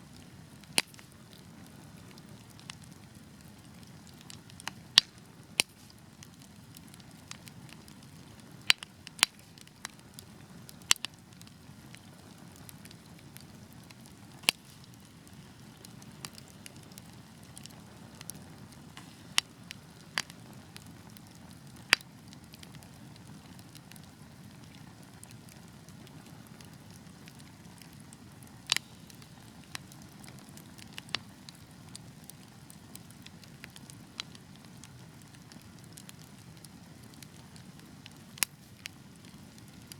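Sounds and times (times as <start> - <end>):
burning logs popping: 0.0 - 39.9.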